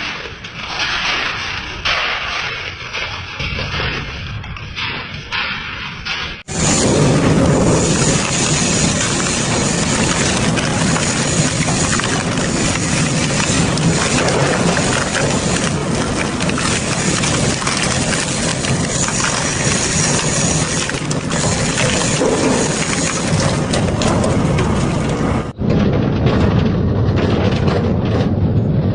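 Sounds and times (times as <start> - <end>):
metal crunching and grinding: 0.0 - 28.9.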